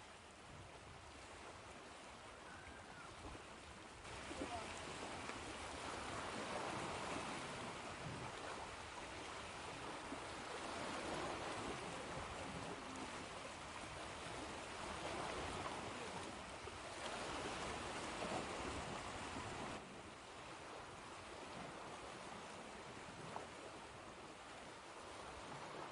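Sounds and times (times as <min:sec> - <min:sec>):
ocean waves washing in: 0:03.2 - 0:25.9.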